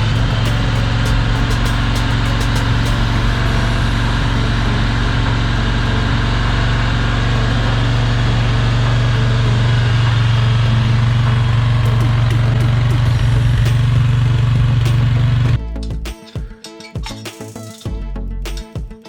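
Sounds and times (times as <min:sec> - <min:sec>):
motorcycle engine idling: 0:00.0 - 0:15.6.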